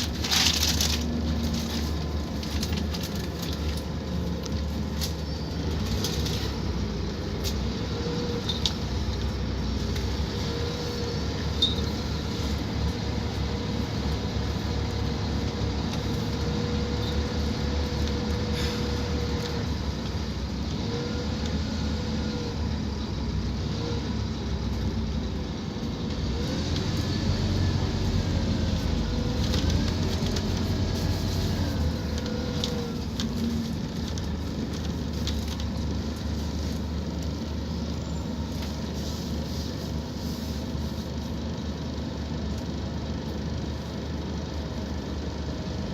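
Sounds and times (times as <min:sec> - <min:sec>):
bus engine accelerating: 0:00.0 - 0:45.9.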